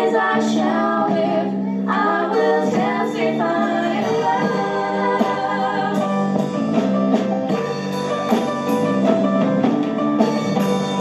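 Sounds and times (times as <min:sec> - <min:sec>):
drum kit beat: 0:00.0 - 0:11.0
guitar: 0:00.0 - 0:11.0.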